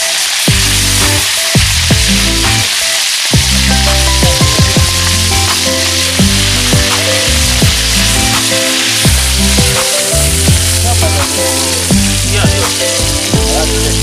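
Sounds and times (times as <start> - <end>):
background music with a beat: 0.0 - 14.0
fish sizzling in hot oil: 0.0 - 14.0.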